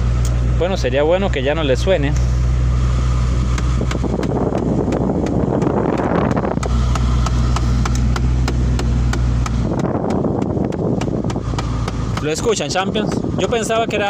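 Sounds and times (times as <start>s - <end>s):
car engine humming: 0.0s - 14.0s.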